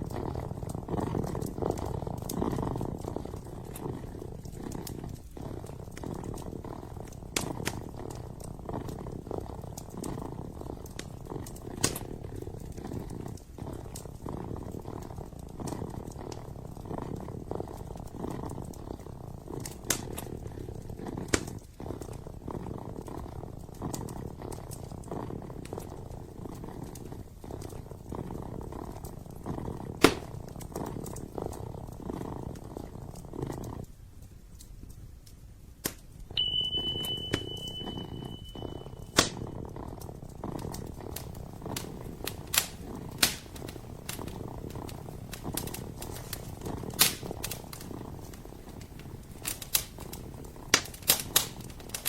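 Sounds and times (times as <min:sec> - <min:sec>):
kitten purring: 0:00.0 - 0:52.0
wood fire crackling pops: 0:00.0 - 0:52.0.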